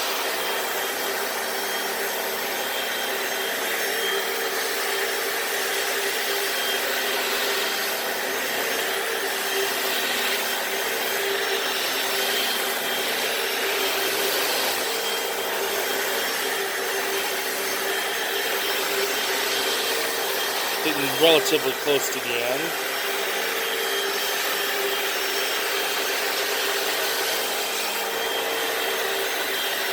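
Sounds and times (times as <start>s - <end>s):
floor cleaner motor humming: 0.0s - 29.9s.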